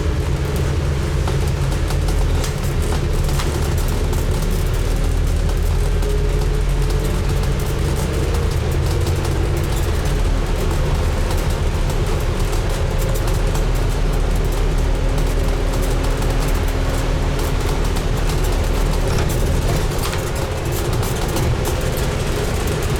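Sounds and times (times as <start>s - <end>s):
bus engine and road rumble: 0.0s - 22.9s.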